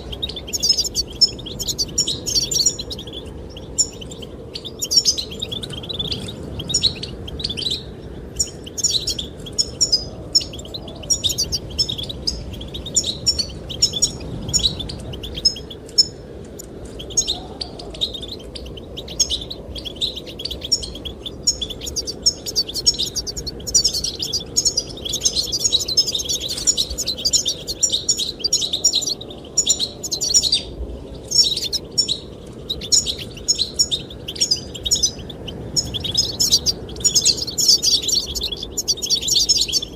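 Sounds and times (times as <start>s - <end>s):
finches twittering: 0.0s - 39.9s
wind-like rush: 0.0s - 39.9s.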